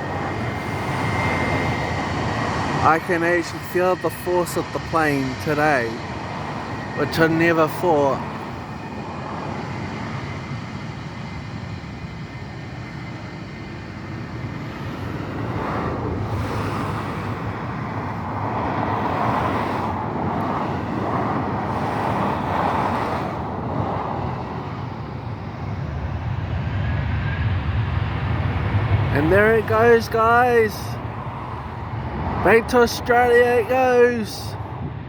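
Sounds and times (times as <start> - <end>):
jet engines roaring at take-off: 0.0 - 35.0.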